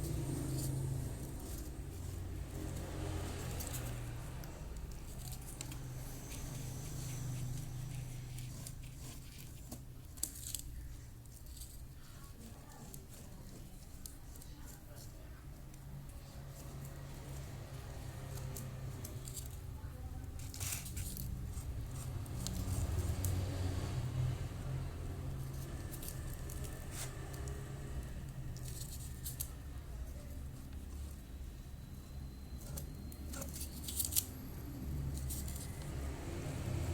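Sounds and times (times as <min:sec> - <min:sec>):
cardboard crinkling and scraping: 0:00.0 - 0:36.9
low steady hum: 0:00.0 - 0:36.9.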